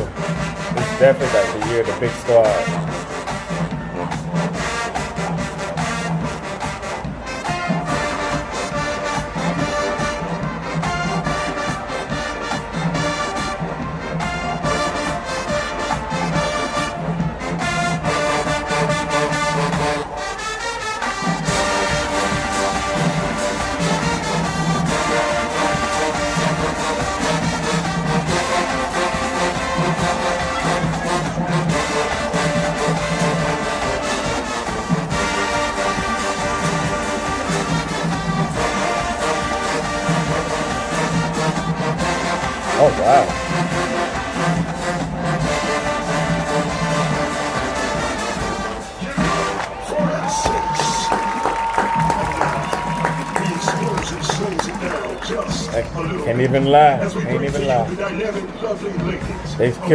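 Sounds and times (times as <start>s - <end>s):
steady drum beat: 0.0s - 20.4s, 21.0s - 59.9s
brass ensemble chords: 0.0s - 59.9s.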